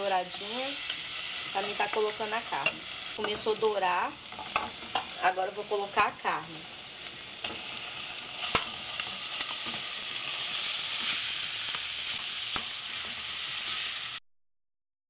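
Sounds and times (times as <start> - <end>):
meat sizzling in hot oil: 0.0 - 14.2.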